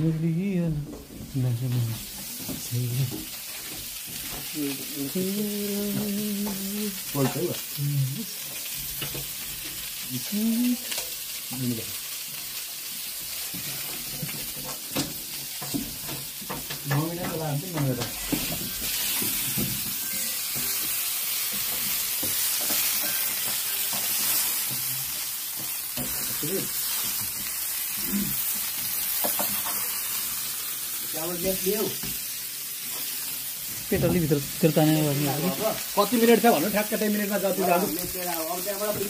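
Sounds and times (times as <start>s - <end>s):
meat sizzling on a grill: 0.3s - 39.0s.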